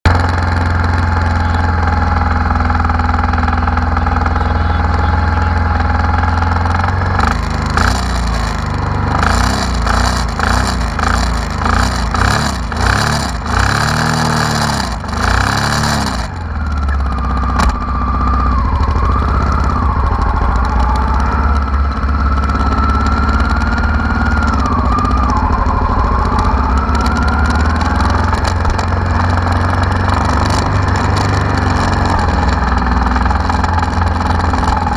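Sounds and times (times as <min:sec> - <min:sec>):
motorcycle engine revving: 0:00.0 - 0:34.9
high wavering whine: 0:00.1 - 0:34.9.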